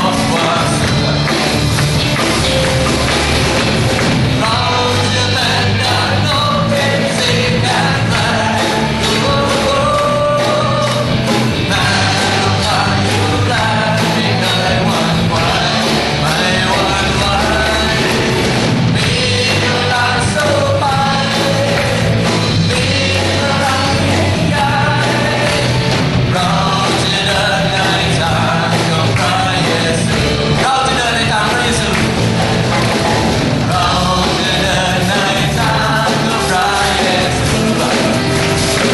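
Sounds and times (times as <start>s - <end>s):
man singing into microphone: 0.0s - 1.4s, 4.3s - 32.7s, 33.6s - 38.9s
rock band playing: 0.0s - 38.9s.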